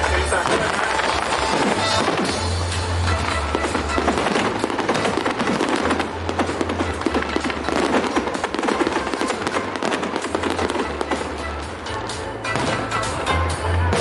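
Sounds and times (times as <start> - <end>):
background music with bass line: 0.0 - 14.0.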